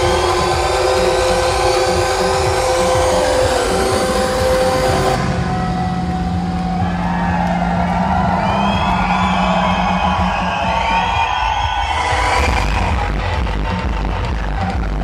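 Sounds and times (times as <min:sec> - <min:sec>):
loud electronic dance music: 0:00.0 - 0:15.0.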